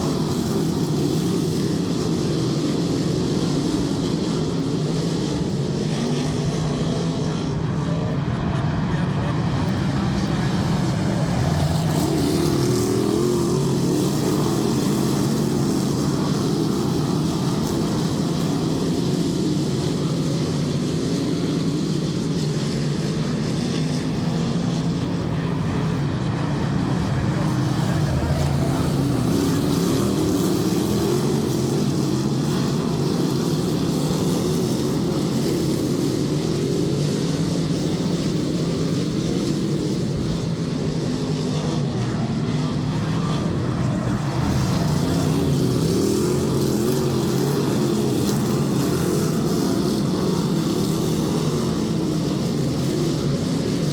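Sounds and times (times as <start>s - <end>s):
race car engines droning: 0.0s - 53.9s.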